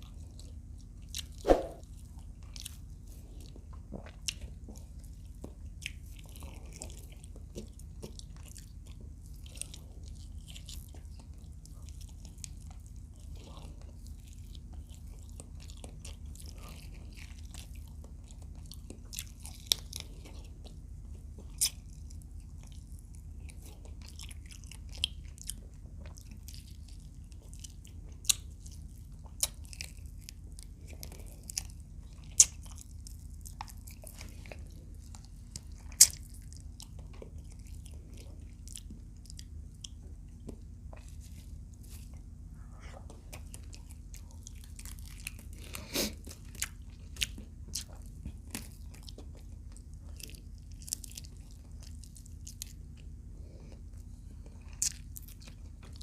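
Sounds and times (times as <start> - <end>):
person chewing close up: 0.0 - 56.0
steady low hum: 0.0 - 56.0.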